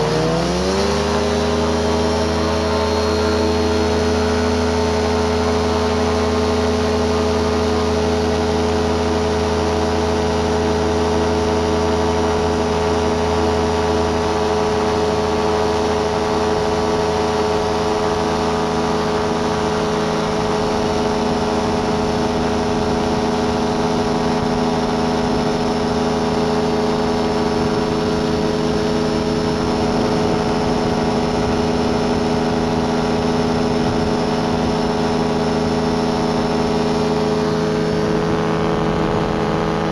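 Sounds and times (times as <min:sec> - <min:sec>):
ultralight aircraft engine running: 0:00.0 - 0:39.9.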